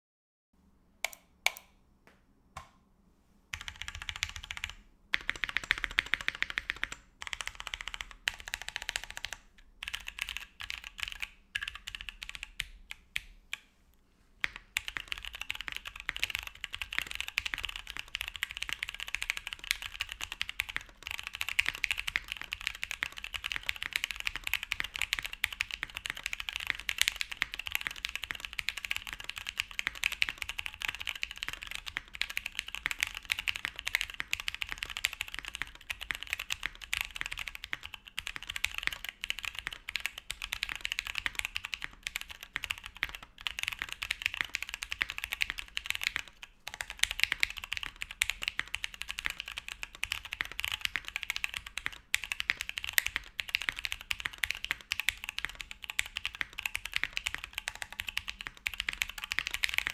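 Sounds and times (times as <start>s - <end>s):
typing on mechanical keyboard: 3.6s - 13.0s, 14.4s - 59.9s.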